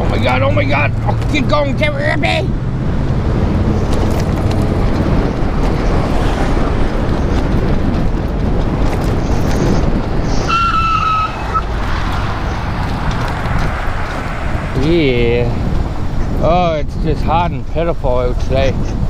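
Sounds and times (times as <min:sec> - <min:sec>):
tyre noise: 0:00.0 - 0:19.0
wind on microphone: 0:00.0 - 0:19.0.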